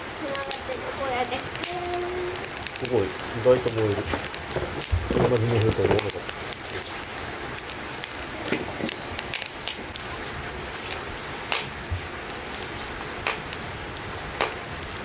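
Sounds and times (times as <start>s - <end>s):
wood fire crackling: 0.0s - 15.0s
sharp fire pops: 0.2s - 15.0s.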